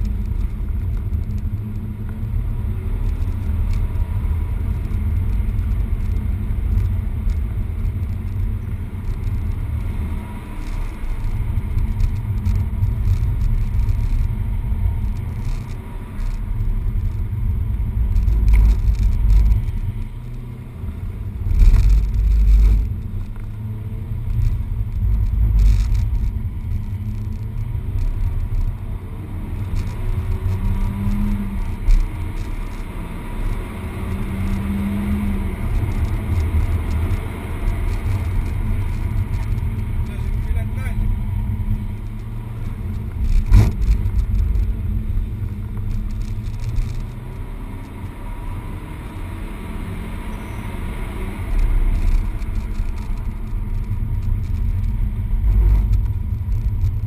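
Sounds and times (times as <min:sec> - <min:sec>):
car engine at speed: 0:00.0 - 0:57.0
road and tyre rumble: 0:00.0 - 0:57.0.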